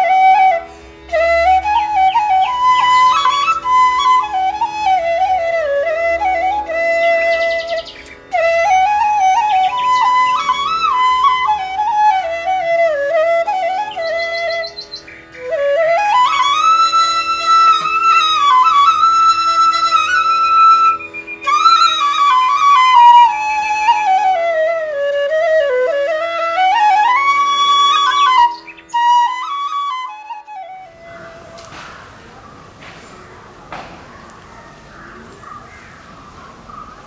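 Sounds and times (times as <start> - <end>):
solo flute melody: 0.0 - 32.4.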